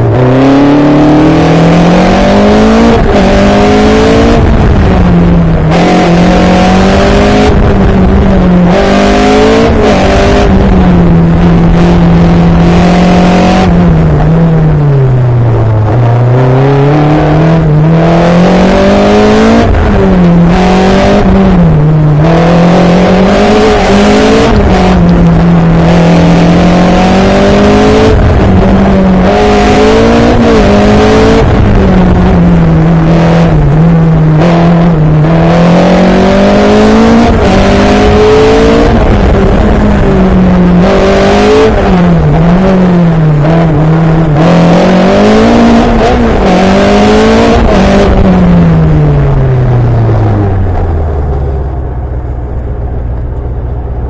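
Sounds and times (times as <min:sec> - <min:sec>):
race car engine revving: 0:00.0 - 0:54.0
wind and tyre rush: 0:00.0 - 0:54.0.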